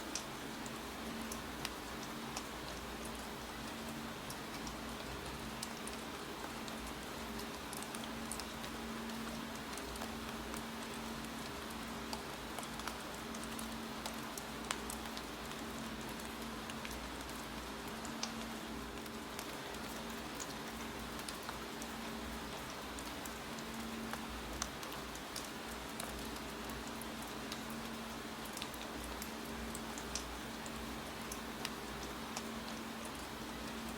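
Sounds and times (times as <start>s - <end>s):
faint steady hum: 0.0s - 33.9s
steady rain: 0.0s - 33.9s.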